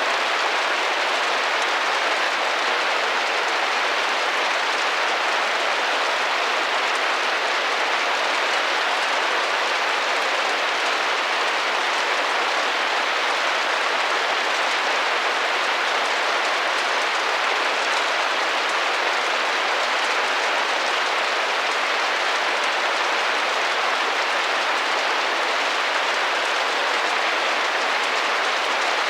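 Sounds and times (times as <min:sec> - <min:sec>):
rain pattering on a window: 0:00.0 - 0:29.0.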